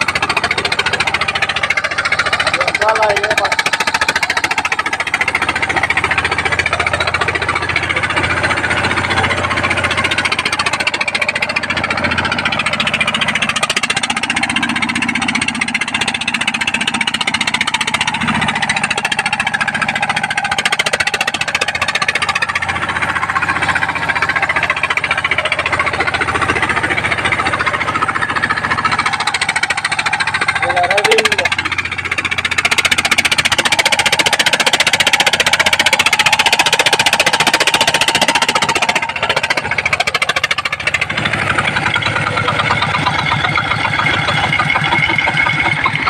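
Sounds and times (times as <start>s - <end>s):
vehicle engine working hard: 0.0s - 46.0s.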